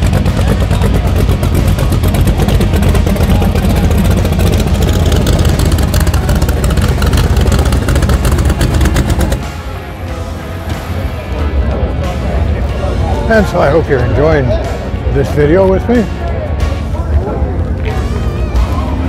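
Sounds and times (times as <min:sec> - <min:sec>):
loud vehicle engine running: 0:00.0 - 0:19.0.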